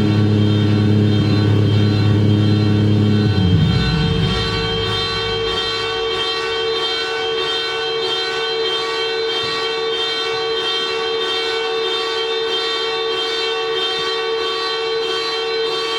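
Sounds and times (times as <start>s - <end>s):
car alarm pulsing tone: 0.0s - 15.9s.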